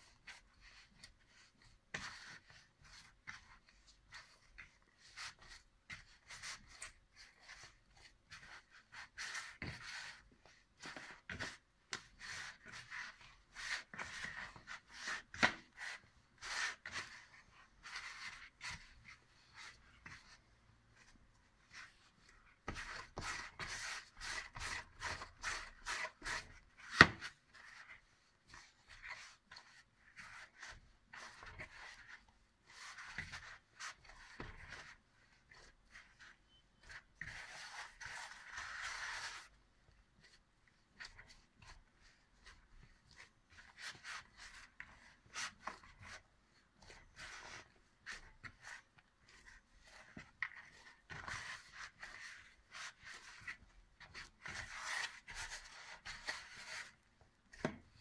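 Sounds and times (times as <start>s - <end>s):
dough squishing in a bowl: 0.0s - 58.0s.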